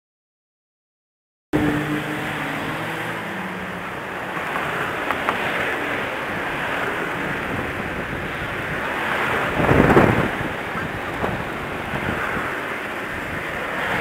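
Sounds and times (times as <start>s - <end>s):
faint engine hum: 1.6s - 14.0s
passing road traffic rushing: 1.6s - 14.0s.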